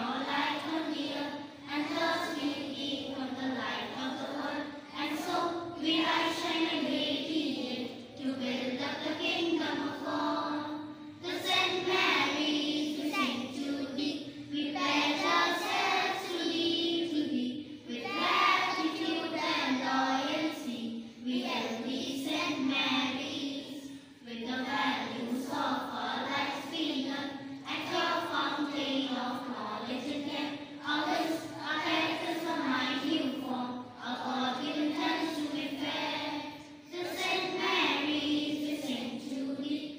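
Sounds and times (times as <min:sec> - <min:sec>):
children singing together: 0:00.0 - 0:39.9.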